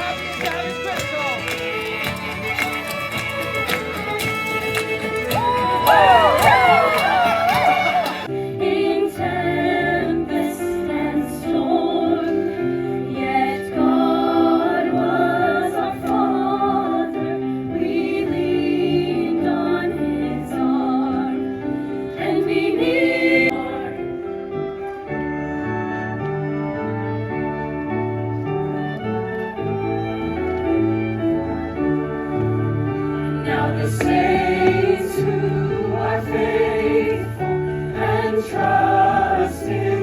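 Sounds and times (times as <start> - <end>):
choir singing sustained chords: 5.6 - 30.4, 31.1 - 40.0.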